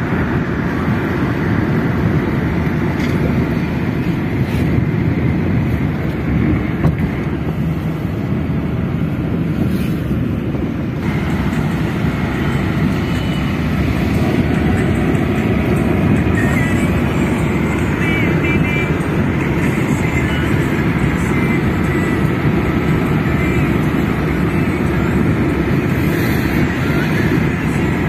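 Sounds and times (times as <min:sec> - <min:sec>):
car cabin road and engine noise: 0:00.0 - 0:28.0.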